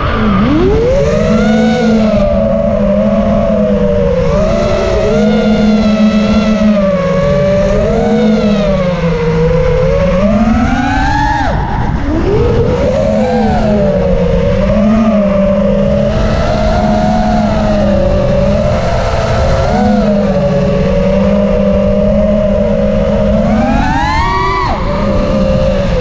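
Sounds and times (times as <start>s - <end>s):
drone motors whining: 0.0s - 26.0s.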